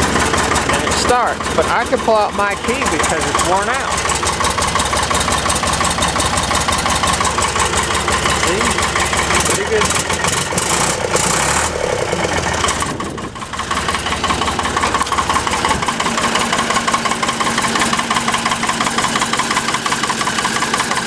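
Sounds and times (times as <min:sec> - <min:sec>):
backhoe engine idling: 0:00.0 - 0:21.0.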